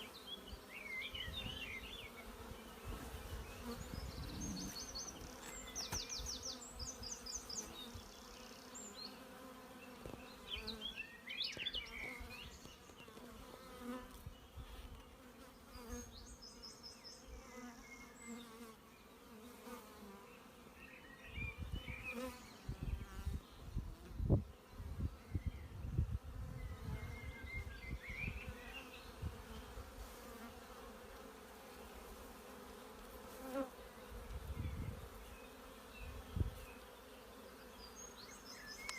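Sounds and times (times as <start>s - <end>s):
bees buzzing: 0.0s - 25.4s, 26.1s - 38.9s.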